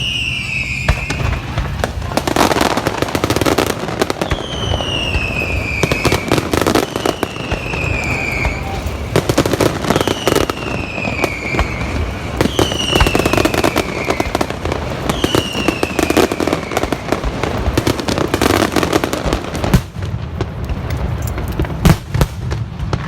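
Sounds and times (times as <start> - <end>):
fireworks crackling pops and bangs: 0.0 - 23.0
whistling fireworks falling in pitch: 0.0 - 23.0.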